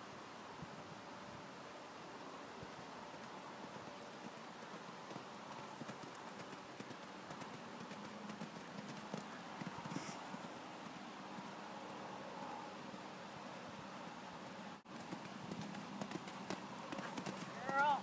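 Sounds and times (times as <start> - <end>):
pony hoofbeats on soft ground: 3.0 - 14.3, 14.9 - 18.0.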